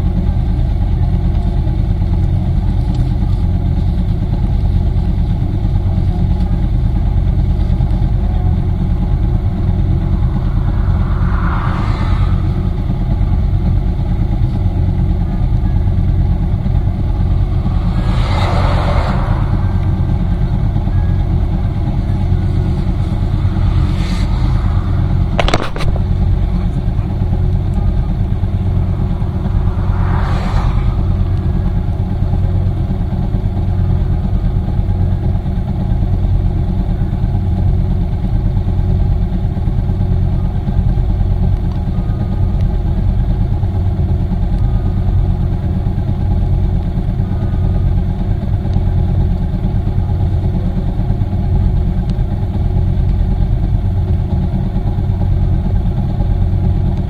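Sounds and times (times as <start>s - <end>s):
motorcycle engine and wind rumble: 0.0s - 57.0s
passing vehicle: 0.0s - 57.0s.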